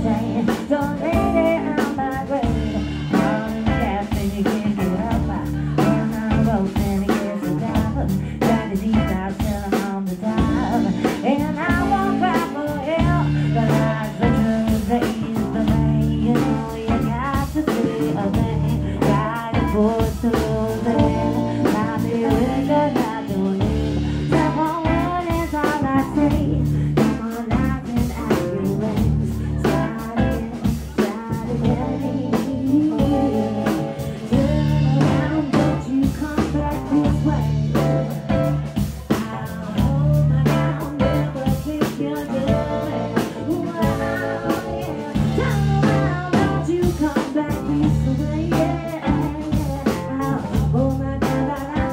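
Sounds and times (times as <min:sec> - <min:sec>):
bass guitar: 0:00.0 - 0:51.9
drum kit: 0:00.0 - 0:51.9
electric guitar: 0:00.0 - 0:51.9
woman singing: 0:00.0 - 0:51.9.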